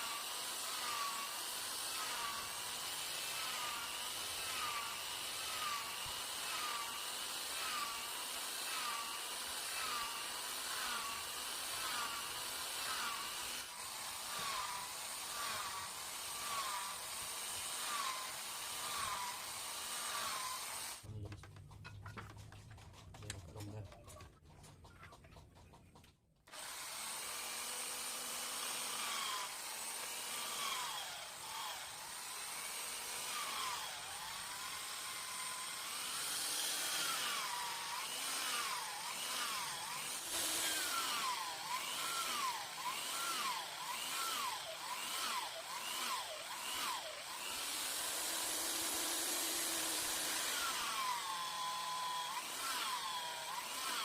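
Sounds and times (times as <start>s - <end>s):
power tool motor whining on wood: 0.0s - 21.1s, 26.5s - 54.0s.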